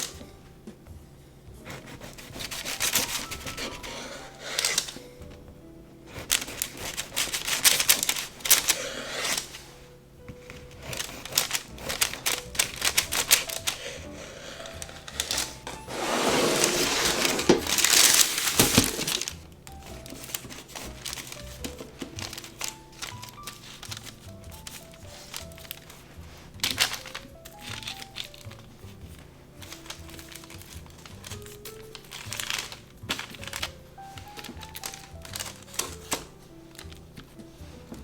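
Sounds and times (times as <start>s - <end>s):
soft background music: 0.0s - 38.0s.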